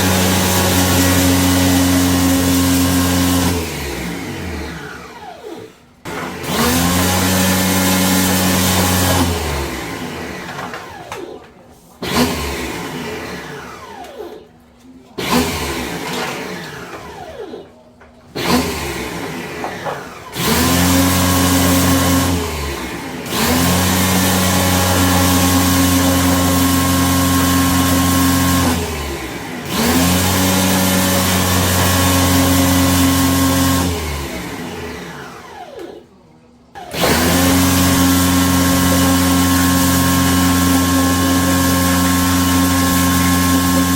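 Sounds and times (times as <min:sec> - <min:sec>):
power tool motor whirring: 0:00.0 - 0:11.3, 0:18.4 - 0:36.0, 0:36.8 - 0:43.9.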